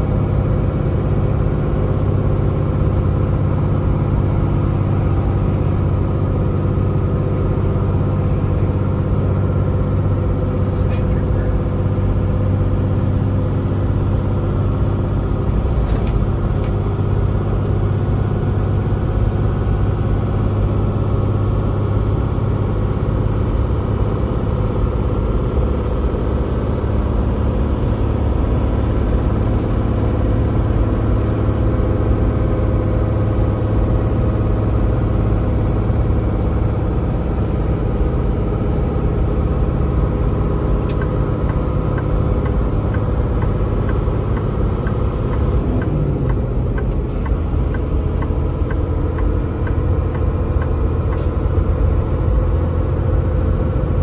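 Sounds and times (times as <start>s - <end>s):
road noise: 0.0s - 54.0s
truck diesel engine drone: 0.0s - 54.0s.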